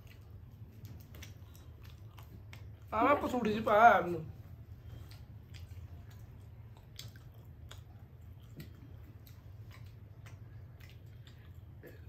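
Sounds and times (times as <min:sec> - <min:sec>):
low steady hum: 0:00.0 - 0:12.0
people chewing food: 0:00.0 - 0:12.0.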